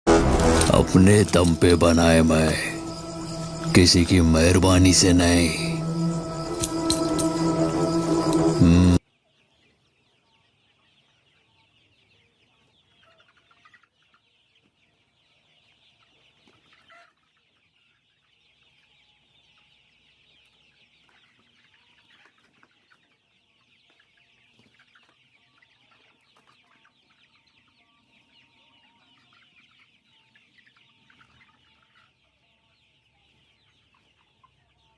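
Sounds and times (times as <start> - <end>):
chickens clucking and chirping: 0.1 - 34.9.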